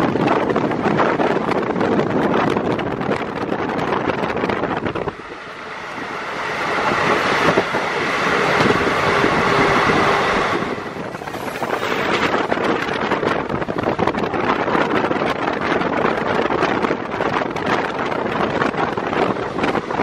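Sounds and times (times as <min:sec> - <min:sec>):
train coach running noise: 0:00.0 - 0:20.0
wind rushing past train window: 0:00.0 - 0:20.0.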